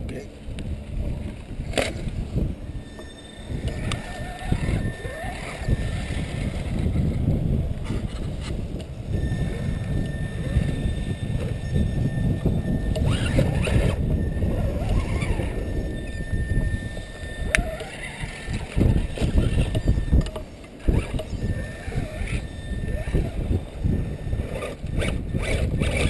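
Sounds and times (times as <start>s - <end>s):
wind rumbling on microphone: 0.0s - 26.0s
electric motor whine: 0.1s - 26.0s.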